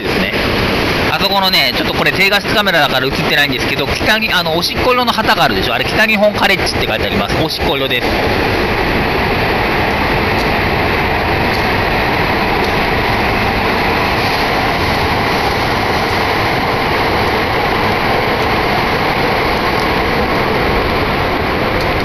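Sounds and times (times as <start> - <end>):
loud rushing noise of train: 0.0 - 22.0.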